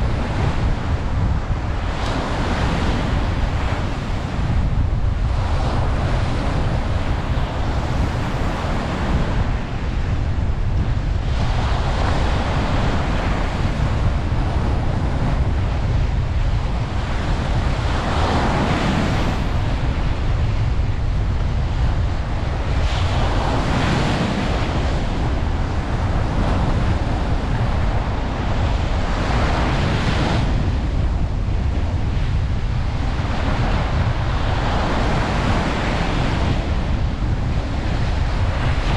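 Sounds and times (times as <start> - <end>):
ocean waves breaking on beach: 0.0 - 38.9
wind rumble on microphone: 0.0 - 38.9.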